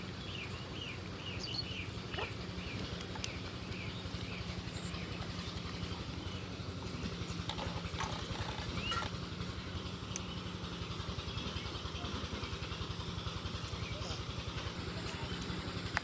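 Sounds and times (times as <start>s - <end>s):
low mechanical hum and rumble: 0.0s - 16.0s
small birds chirping: 0.0s - 16.0s.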